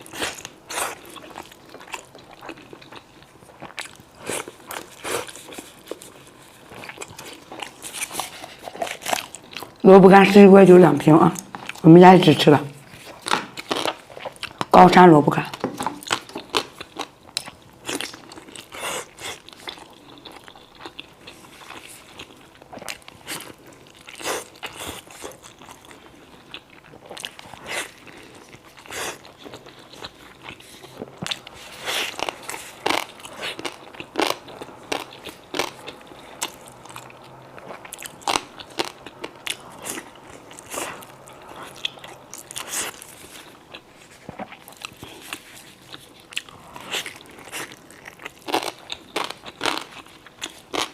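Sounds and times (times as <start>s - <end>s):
crunchy chewing: 0.0s - 9.8s, 12.8s - 14.7s, 15.5s - 50.9s.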